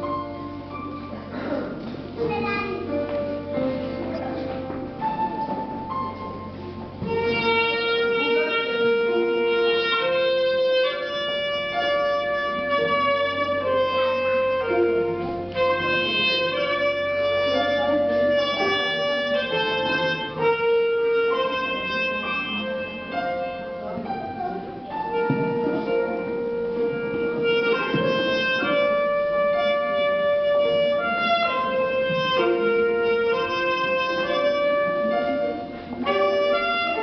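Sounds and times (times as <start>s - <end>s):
clarinet slow melody: 0.0s - 37.0s
piano accompaniment: 0.0s - 37.0s.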